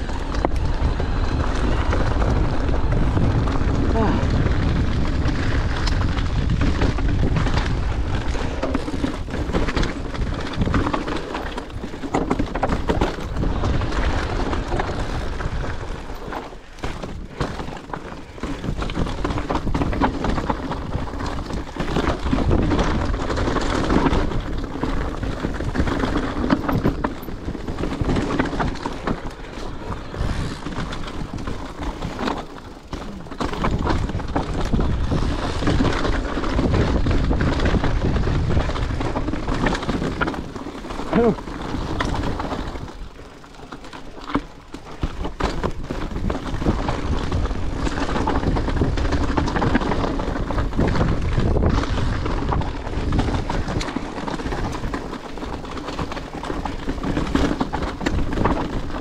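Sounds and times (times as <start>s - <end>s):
wind buffeting microphone: 0.0s - 43.2s, 45.0s - 59.0s
bike frame rattling: 0.0s - 59.0s
tyres crunching over stones: 0.0s - 59.0s.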